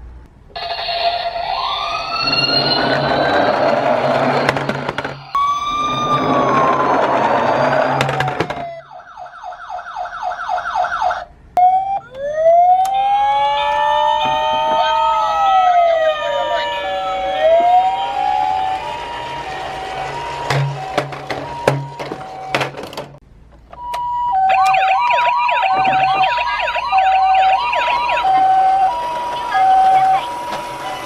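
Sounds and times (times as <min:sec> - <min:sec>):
fast yelp siren: 0:00.6 - 0:04.4, 0:05.3 - 0:22.5, 0:24.0 - 0:31.0
two-tone hi-lo siren: 0:00.6 - 0:22.6, 0:23.8 - 0:31.0
wailing sirens: 0:00.6 - 0:23.1, 0:23.8 - 0:31.0.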